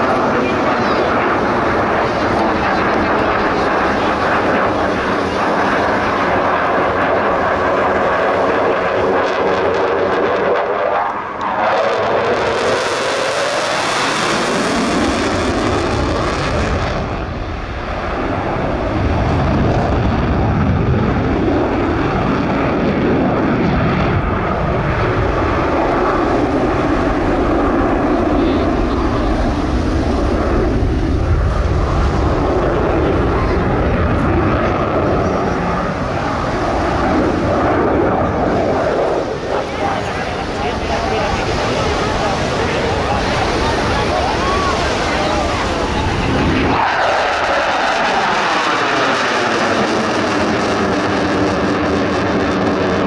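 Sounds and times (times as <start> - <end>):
aircraft engine flying by: 0.0 - 53.0
deep rumble: 0.0 - 53.0.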